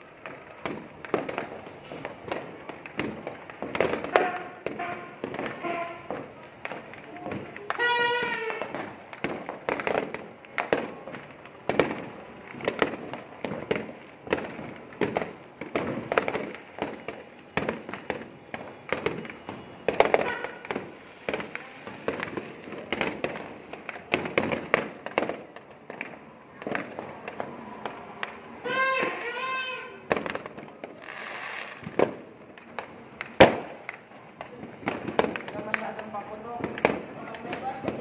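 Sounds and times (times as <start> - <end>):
fireworks and firecrackers banging: 0.0 - 38.0.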